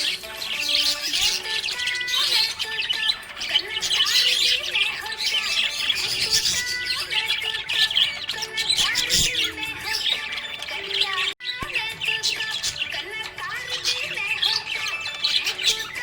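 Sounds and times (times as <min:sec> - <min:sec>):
budgerigars chirping: 0:00.0 - 0:16.0.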